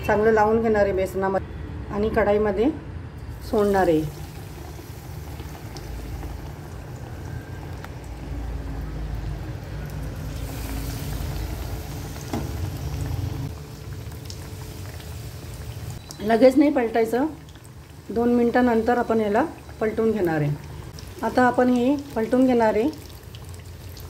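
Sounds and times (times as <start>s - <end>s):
food sizzling in hot oil: 3.3s - 24.0s.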